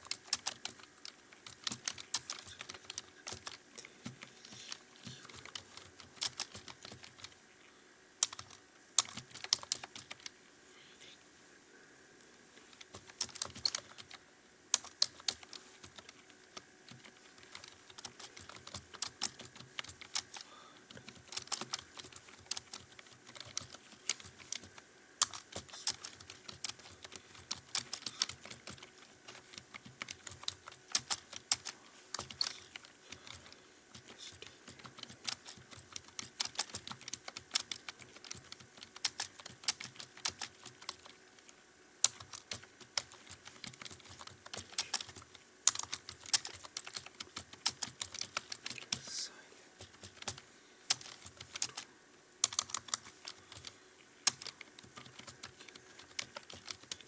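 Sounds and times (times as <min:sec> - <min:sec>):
fast typing on computer keyboard: 0:00.0 - 0:07.4, 0:08.2 - 0:10.3, 0:12.6 - 0:49.1, 0:49.8 - 0:57.0.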